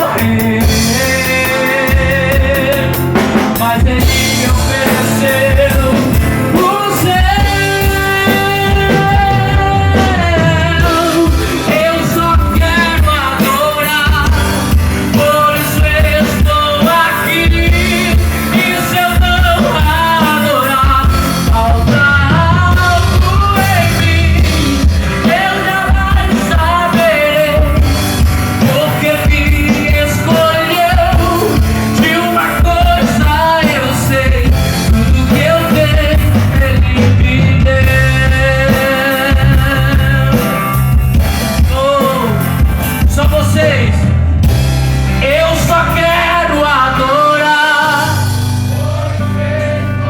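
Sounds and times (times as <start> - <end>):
lead singer singing: 0.0 - 50.0
live band through pa: 0.0 - 50.0.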